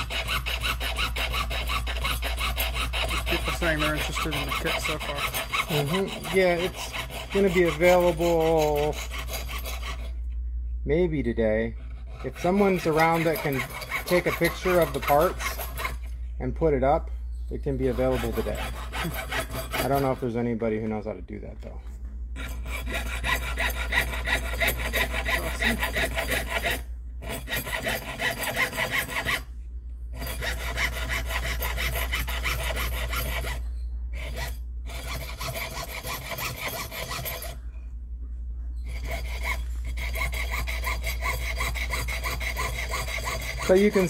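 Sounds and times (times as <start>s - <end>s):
saw blade cutting metal sheet: 0.0s - 10.2s, 11.9s - 16.1s, 17.6s - 20.4s, 22.4s - 29.5s, 30.2s - 37.6s, 38.9s - 44.0s.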